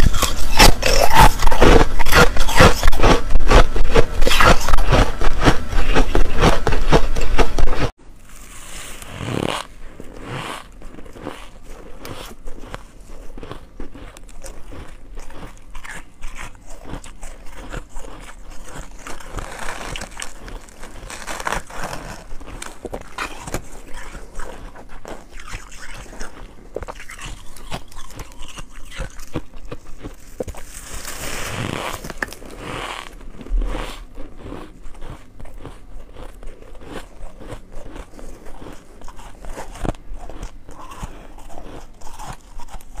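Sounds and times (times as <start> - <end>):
chewing crunchy ice: 0.0 - 8.0, 9.0 - 43.0.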